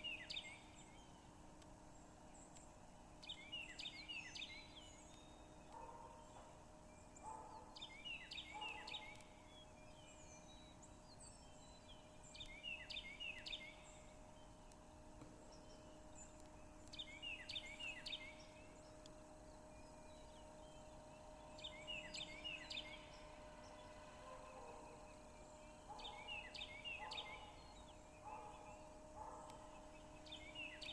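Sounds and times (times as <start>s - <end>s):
bird singing: 0.0s - 30.9s
faint steady hum: 0.0s - 30.9s.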